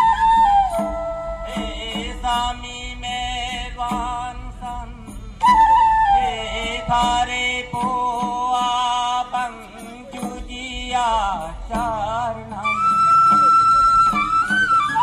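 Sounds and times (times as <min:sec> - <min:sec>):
folk song sung through a pa: 0:00.0 - 0:15.0.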